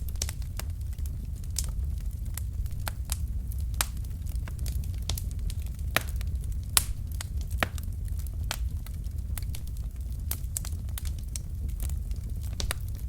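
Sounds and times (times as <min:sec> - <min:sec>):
logs crackling and snapping: 0:00.0 - 0:13.0
low rumble of flames: 0:00.0 - 0:13.0.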